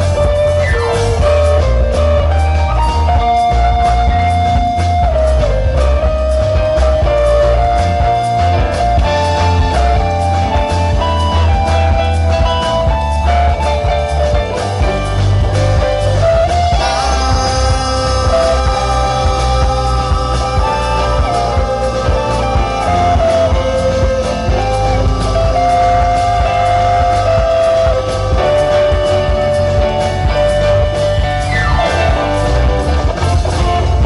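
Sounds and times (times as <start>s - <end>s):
live rock band playing: 0.0s - 34.0s
sliding held melody notes: 0.0s - 34.0s.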